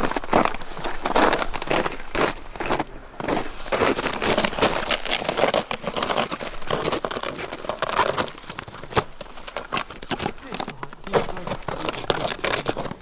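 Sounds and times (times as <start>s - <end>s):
animal dragged through crunching snow: 0.0s - 13.0s.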